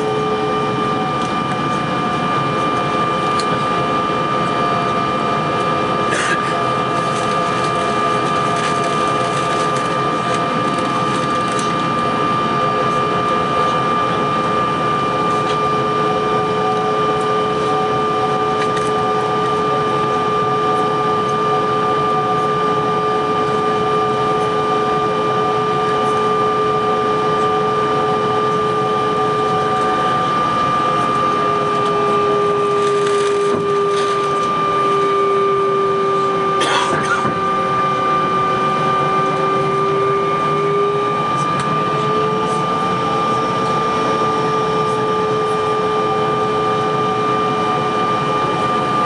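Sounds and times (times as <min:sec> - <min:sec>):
jet engine whining tones: 0:00.0 - 0:49.0.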